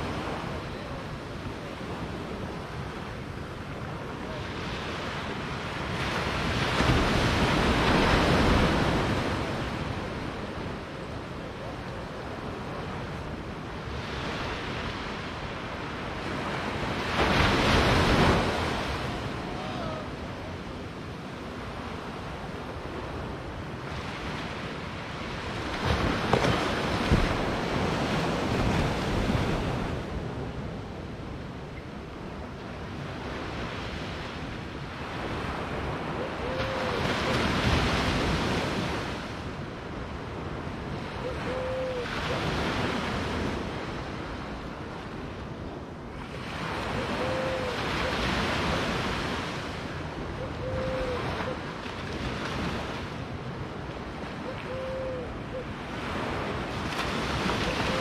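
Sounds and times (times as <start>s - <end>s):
ocean waves washing up beach: 0.0s - 55.0s, 55.8s - 58.0s.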